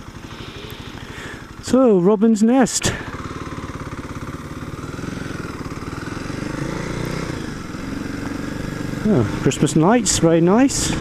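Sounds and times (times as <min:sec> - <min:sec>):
motorcycle engine throbbing: 0:00.0 - 0:11.0.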